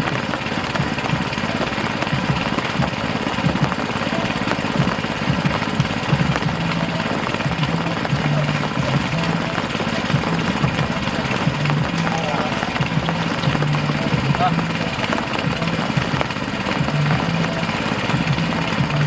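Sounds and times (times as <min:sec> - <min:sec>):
water pump engine chugging: 0:00.0 - 0:19.0.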